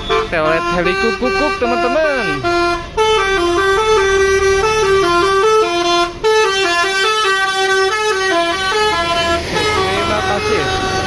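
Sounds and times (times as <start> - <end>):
bus horn playing a melody: 0.0 - 11.0.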